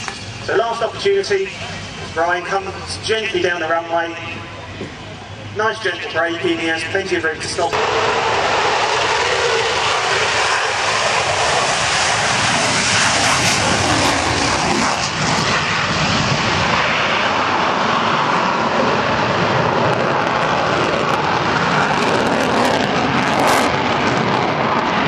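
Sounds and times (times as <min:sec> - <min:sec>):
aircraft engine rushing: 0:00.0 - 0:25.0.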